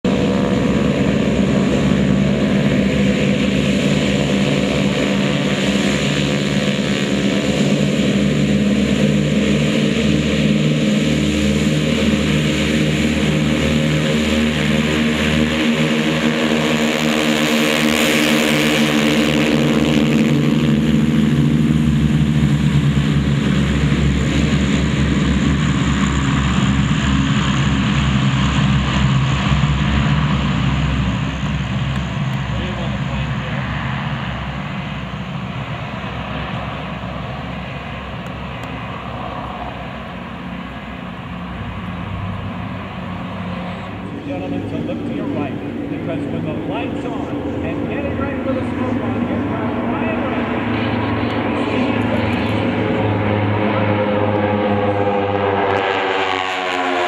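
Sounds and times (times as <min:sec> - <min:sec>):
radial aircraft engines droning: 0:00.0 - 0:57.0.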